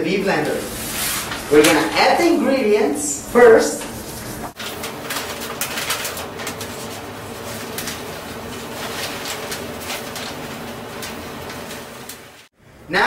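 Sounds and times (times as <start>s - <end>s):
paper bag rustling: 0.4s - 2.5s, 3.4s - 12.5s.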